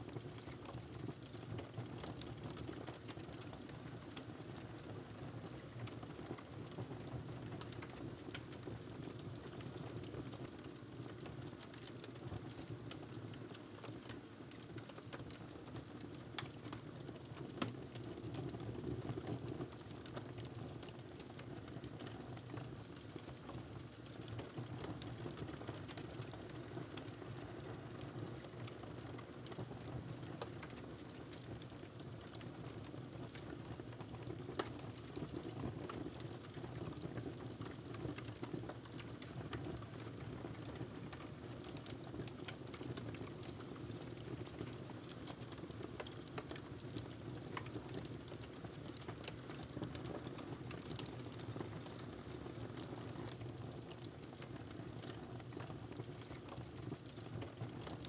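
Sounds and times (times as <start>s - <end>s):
wood fire crackling and popping: 0.1s - 4.8s, 5.4s - 58.0s.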